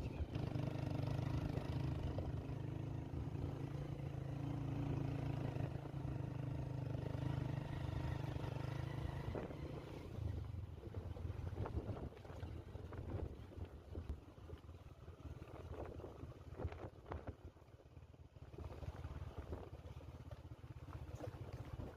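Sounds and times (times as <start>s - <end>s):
low engine hum: 0.0s - 21.9s.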